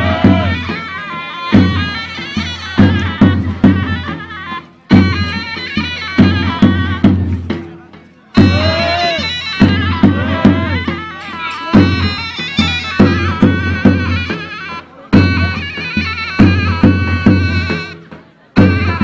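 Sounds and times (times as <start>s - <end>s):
reedy wind instrument melody: 0.0s - 7.6s, 8.3s - 19.0s
drum beats: 0.0s - 19.0s.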